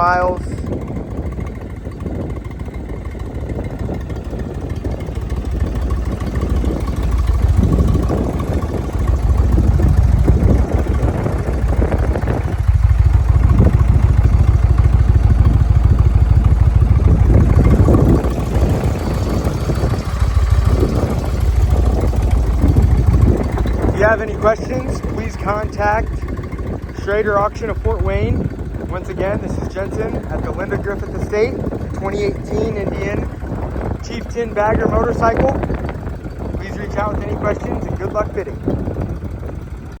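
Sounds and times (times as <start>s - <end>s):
motorcycle engine rumbling: 0.0s - 40.0s.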